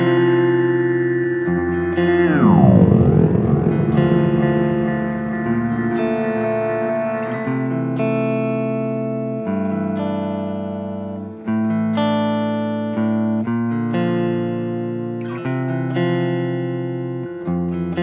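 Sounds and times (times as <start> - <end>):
electric guitar ringing chords: 0.0 - 18.0.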